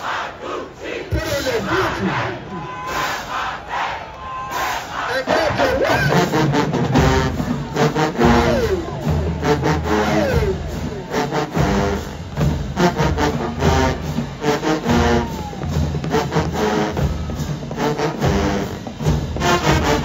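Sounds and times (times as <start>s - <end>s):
brass: 0.0s - 20.0s
drumline: 0.0s - 20.0s.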